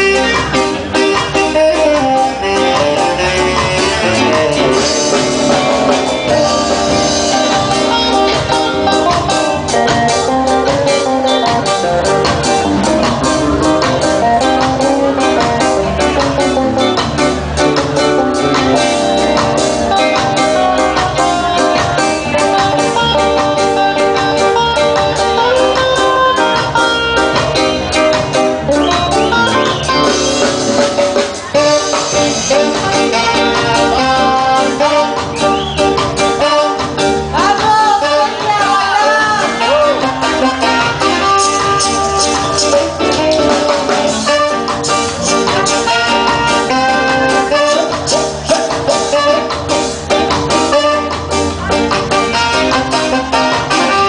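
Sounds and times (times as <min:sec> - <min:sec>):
drum kit beat: 0:00.0 - 0:54.0
electric guitars: 0:00.0 - 0:54.0
live band playing: 0:00.0 - 0:54.0
trumpet melody: 0:00.0 - 0:54.0.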